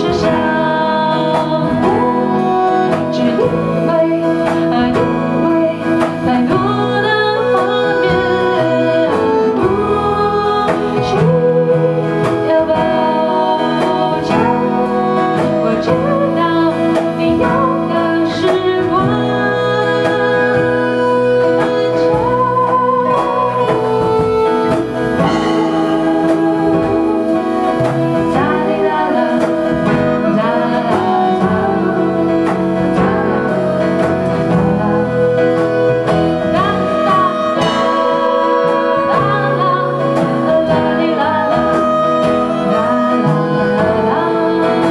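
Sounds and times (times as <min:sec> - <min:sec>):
acoustic guitar: 0:00.0 - 0:44.9
bowed string instrument: 0:00.0 - 0:44.9
person singing: 0:00.0 - 0:44.9.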